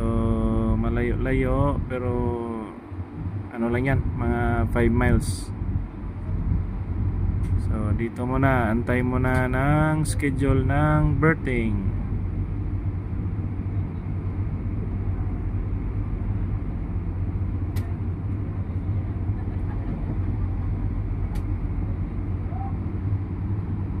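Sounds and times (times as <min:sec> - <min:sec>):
ship machinery rumble: 0:00.0 - 0:24.0.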